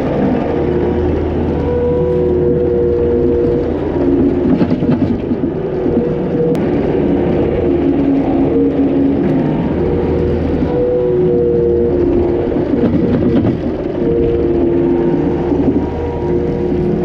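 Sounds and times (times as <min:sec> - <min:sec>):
diesel engine under load: 0:00.0 - 0:17.0
hydraulic whine: 0:00.0 - 0:17.0.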